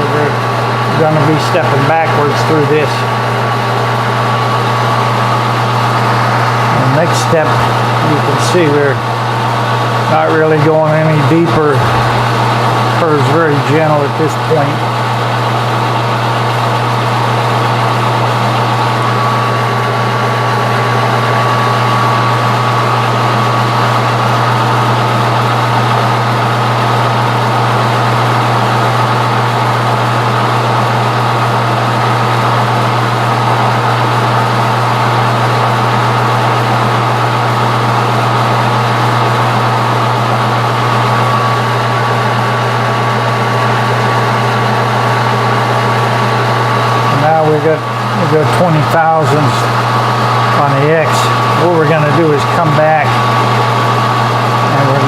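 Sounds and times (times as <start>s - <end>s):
metal lathe humming and whining: 0.0s - 55.0s.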